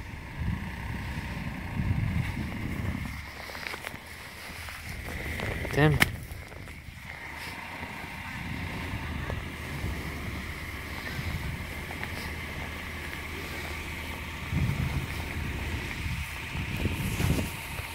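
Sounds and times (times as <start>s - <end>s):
car engine humming: 0.0s - 17.9s
tyres working through snow: 0.0s - 17.9s.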